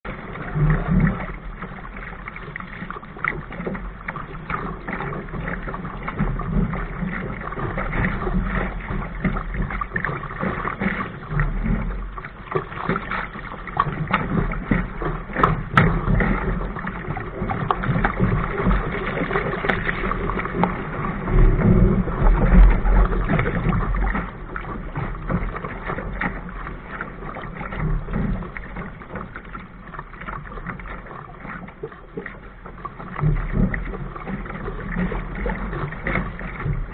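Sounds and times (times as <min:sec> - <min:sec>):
water rushing along boat hull: 0:00.0 - 0:36.9
wind rumble on microphone: 0:00.0 - 0:36.9.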